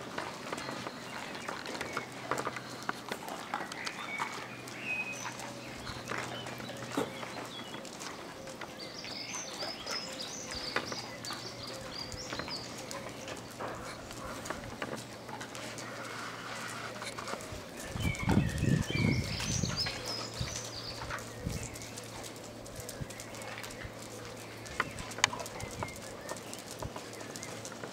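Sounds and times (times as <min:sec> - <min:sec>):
dogs snuffling: 0:00.0 - 0:27.9.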